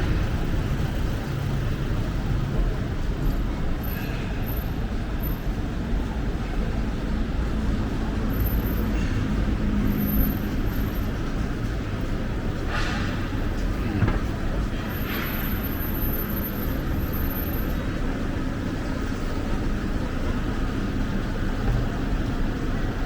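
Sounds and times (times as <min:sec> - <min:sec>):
city road traffic rumble: 0:00.0 - 0:23.0.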